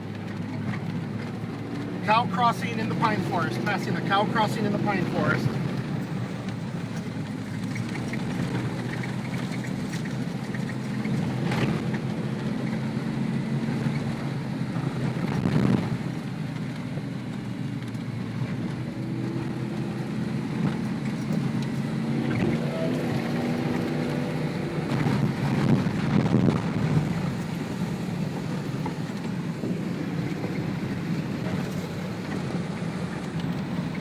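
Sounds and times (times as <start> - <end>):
vehicle engine drone: 0.0 - 34.0
vehicle jolt: 0.0 - 34.0.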